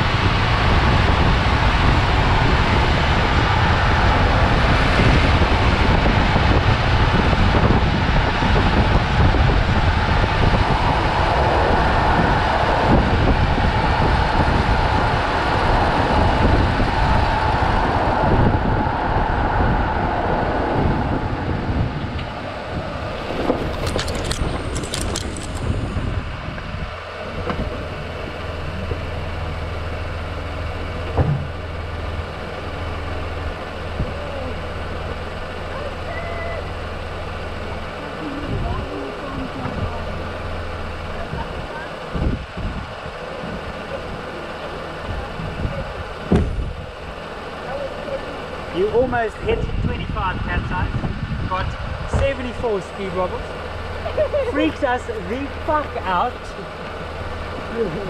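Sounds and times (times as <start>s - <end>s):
road rumble: 0.0s - 58.0s
wind rushing over microphone: 0.0s - 58.0s.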